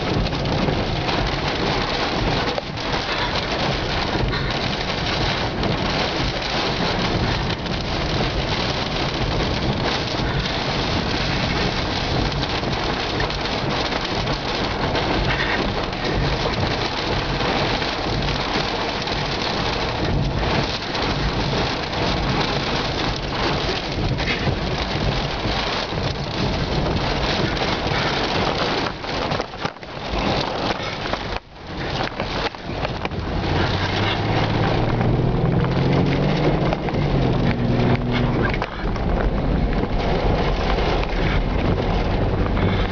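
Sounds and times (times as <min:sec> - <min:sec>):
heavy rain and wind on car: 0:00.0 - 0:42.9.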